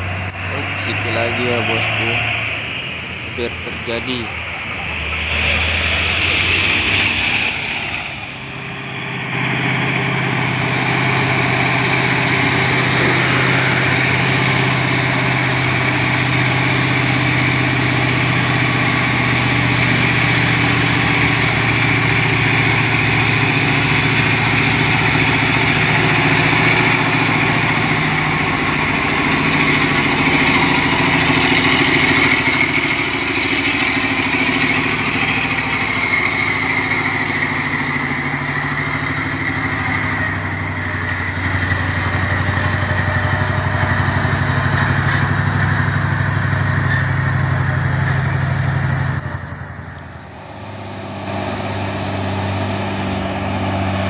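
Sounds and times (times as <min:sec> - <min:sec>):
diesel truck engine running: 0:00.0 - 0:54.0
engine whine: 0:00.0 - 0:54.0.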